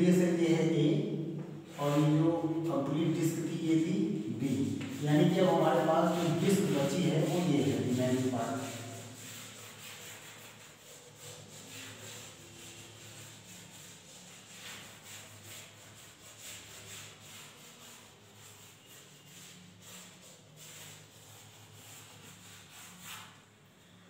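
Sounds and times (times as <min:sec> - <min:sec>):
chalk scraping on chalkboard: 0:00.0 - 0:24.0.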